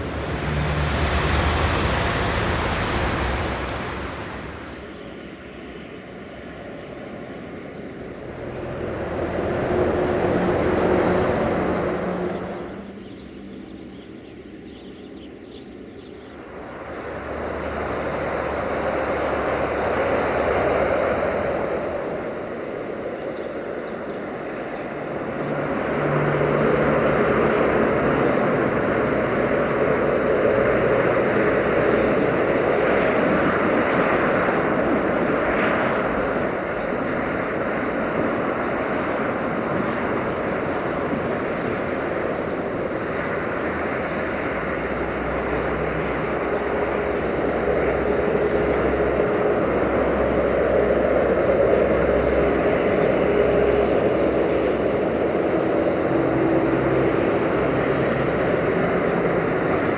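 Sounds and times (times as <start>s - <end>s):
diesel locomotive engine droning: 0.0s - 59.9s.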